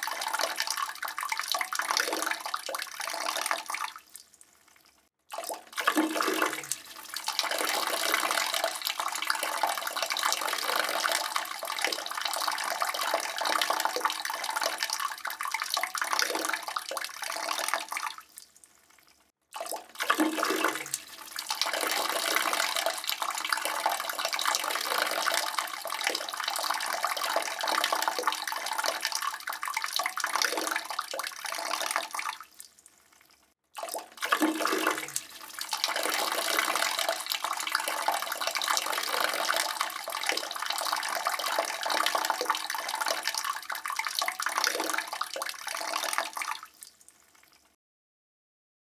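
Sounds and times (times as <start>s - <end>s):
urine splashing into toilet water: 0.0s - 47.8s.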